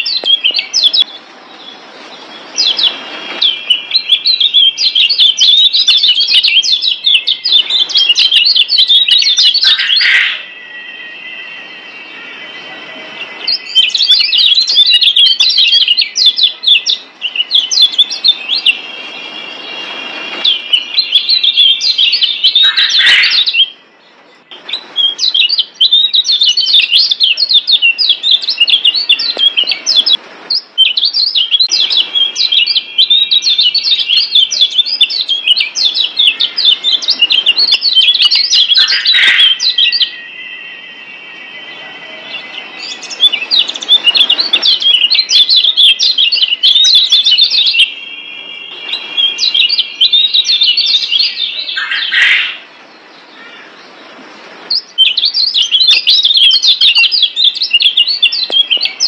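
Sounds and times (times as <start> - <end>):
steady high tones: 0.0 - 57.4
bird twittering: 0.0 - 59.0.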